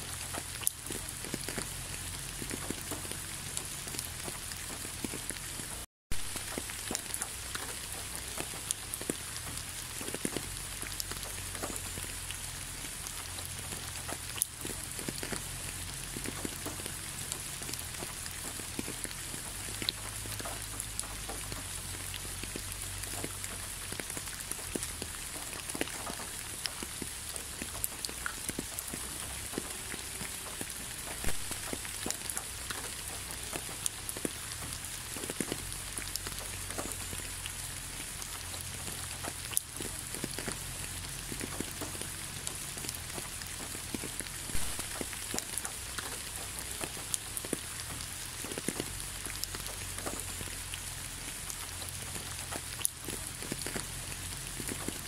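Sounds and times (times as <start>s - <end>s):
raindrops ticking: 0.0s - 55.0s
steady rain falling: 0.0s - 55.0s.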